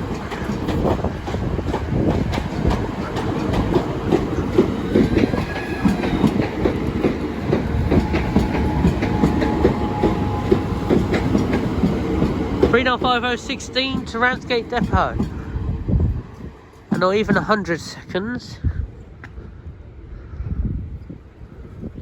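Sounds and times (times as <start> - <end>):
train wheels clattering over rail joints: 0.0 - 18.2.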